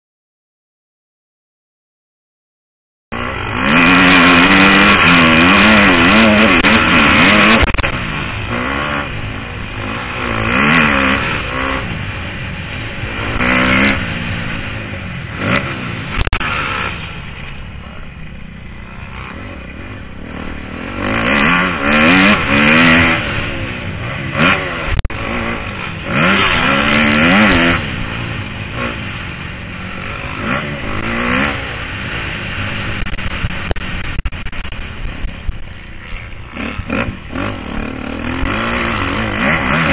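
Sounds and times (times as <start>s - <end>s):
motocross bike engine revving: 3.1s - 39.9s.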